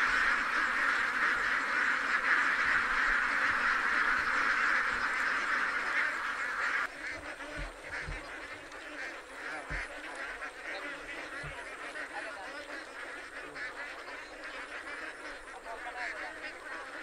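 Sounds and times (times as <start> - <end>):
ducks quacking: 0.0 - 17.0.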